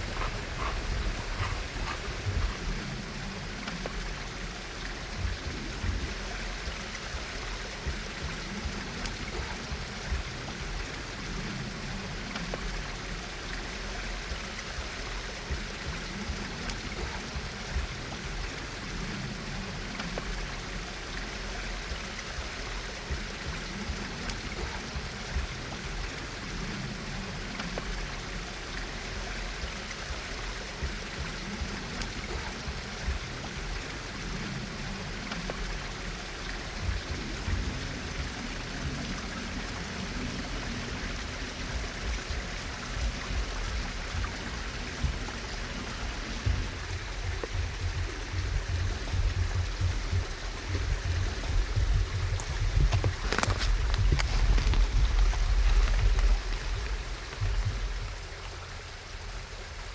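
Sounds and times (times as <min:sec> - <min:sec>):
faint clicks: 0:00.0 - 0:58.8
stream flowing: 0:00.0 - 0:59.9.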